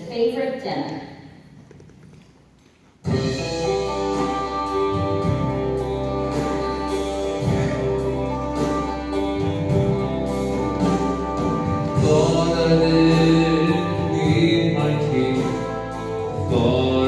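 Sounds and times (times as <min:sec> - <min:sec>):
instrumental music with beat: 0:03.0 - 0:17.0.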